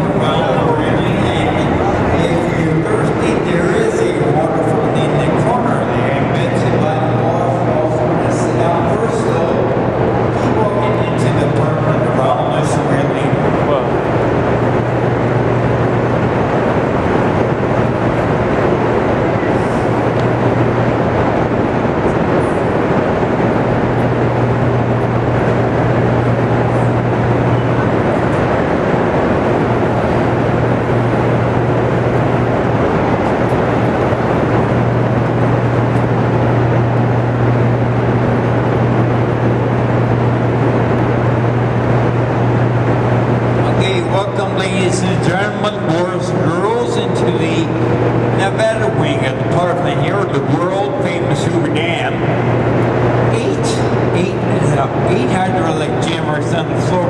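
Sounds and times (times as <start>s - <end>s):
generators humming: 0.0s - 57.0s
machine roar: 0.0s - 57.0s.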